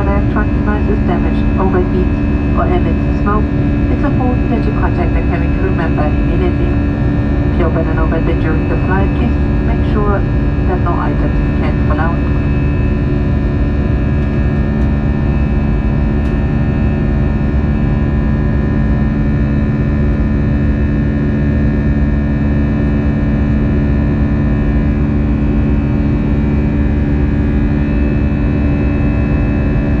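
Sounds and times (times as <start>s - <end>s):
jet engine and airflow drone: 0.0s - 30.0s
low steady hum: 0.0s - 30.0s.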